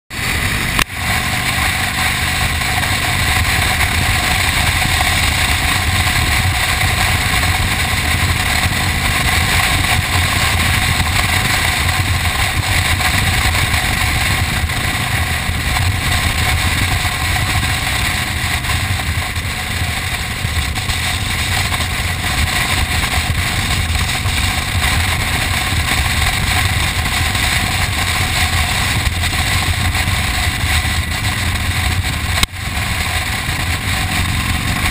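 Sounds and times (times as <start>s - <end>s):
motorcycle engine running: 0.1s - 34.9s
road noise: 0.1s - 34.9s
wind rush: 0.1s - 34.9s.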